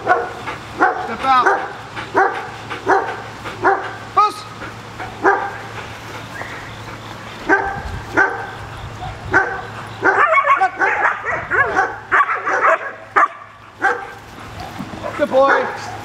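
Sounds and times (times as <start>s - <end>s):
dog barking and yipping: 0.0s - 4.1s, 4.9s - 5.8s, 6.6s - 16.0s.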